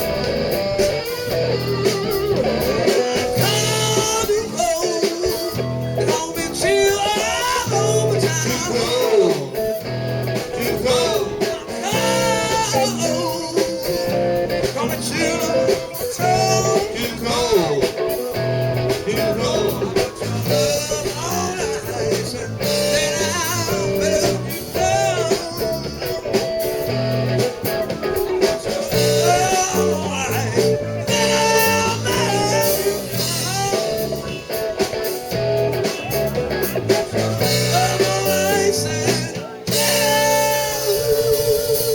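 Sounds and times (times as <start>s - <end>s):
blues-rock band playing: 0.0s - 41.9s
lead electric guitar: 0.0s - 41.9s.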